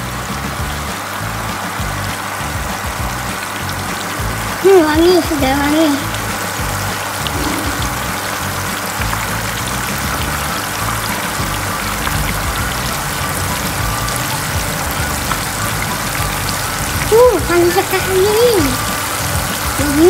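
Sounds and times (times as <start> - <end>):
background music: 0.0 - 20.0
chicken sizzling in hot oil: 0.0 - 20.0.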